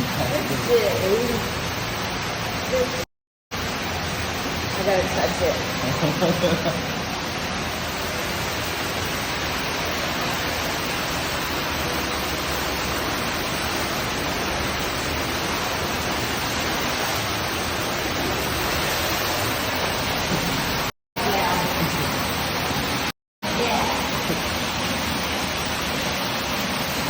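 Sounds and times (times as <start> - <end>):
cave waterfall roaring: 0.0 - 3.0, 3.6 - 27.0.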